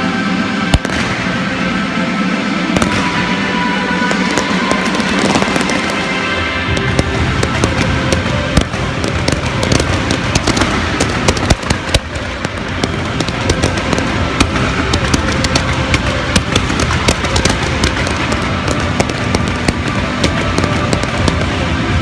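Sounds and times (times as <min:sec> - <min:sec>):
fireworks bangs and crackles: 0:00.2 - 0:22.0.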